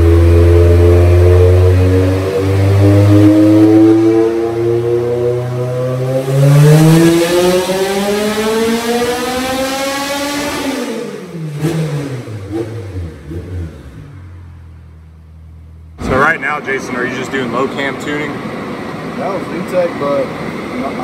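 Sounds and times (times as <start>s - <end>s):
race engine revving: 0.0s - 14.8s, 16.0s - 21.0s.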